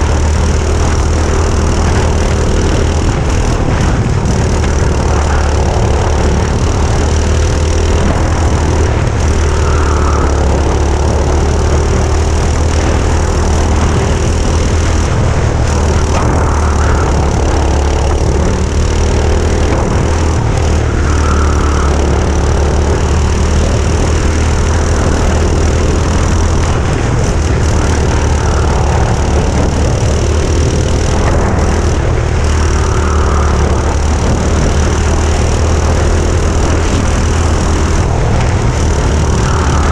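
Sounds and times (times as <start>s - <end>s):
go-kart engines droning: 0.0s - 39.9s.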